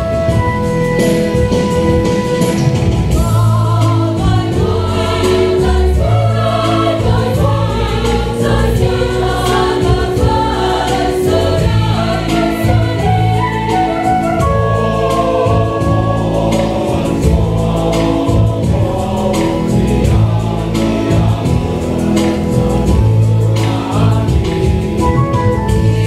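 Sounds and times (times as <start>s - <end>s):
choir singing a hymn: 0.0s - 26.0s.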